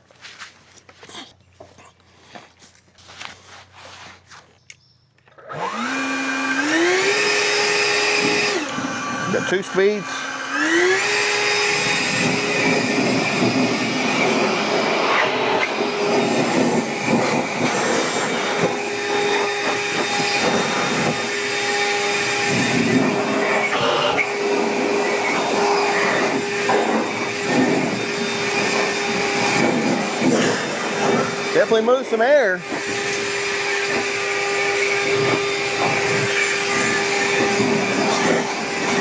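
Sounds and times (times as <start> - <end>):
leaf blower motor whine: 5.4 - 39.0.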